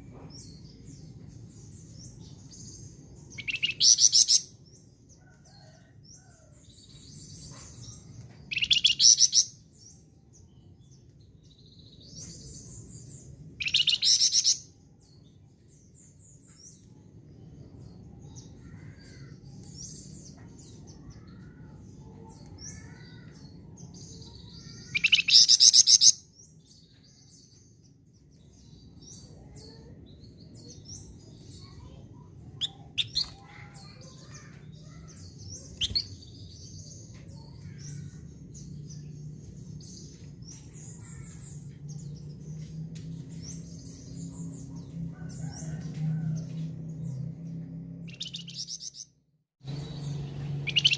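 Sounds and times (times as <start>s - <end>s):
songbird trilling and chirping: 0.2s - 9.7s, 10.4s - 15.4s, 21.1s - 27.5s, 28.4s - 49.0s, 49.7s - 50.9s.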